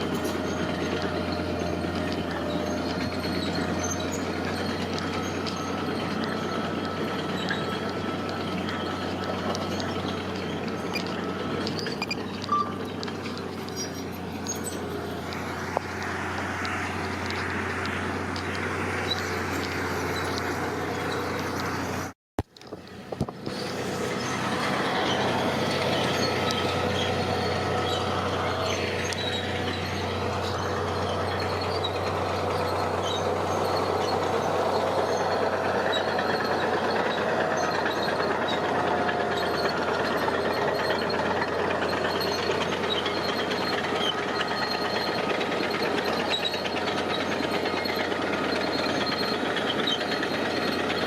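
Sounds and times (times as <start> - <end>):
diesel construction machinery running: 0.0 - 51.0.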